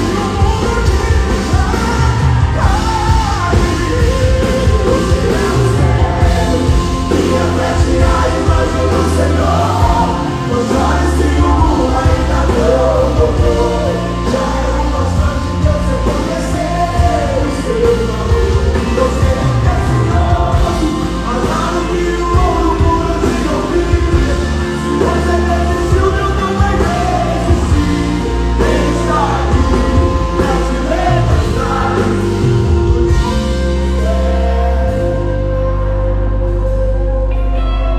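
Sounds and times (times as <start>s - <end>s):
men singing: 0.0s - 35.8s
live band playing gospel song: 0.0s - 37.9s.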